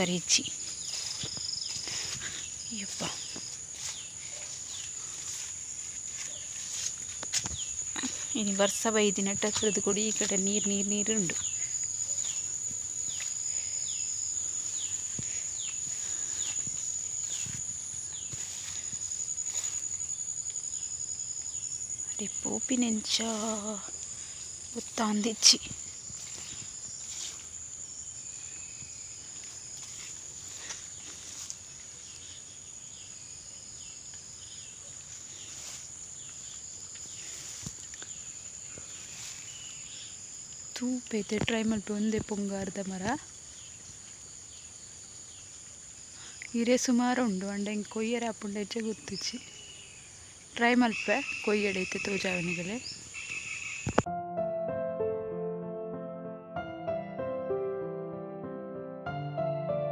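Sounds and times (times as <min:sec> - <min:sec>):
high-pitched insect trill: 0:00.0 - 0:54.1.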